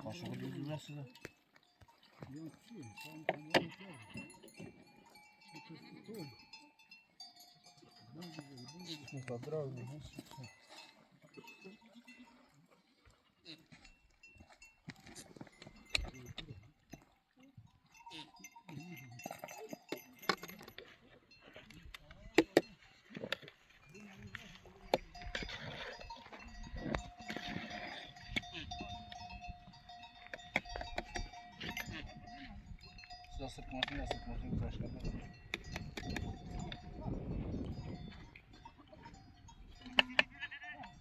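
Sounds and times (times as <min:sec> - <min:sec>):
faint animal bells clinking: 0:00.0 - 0:41.0.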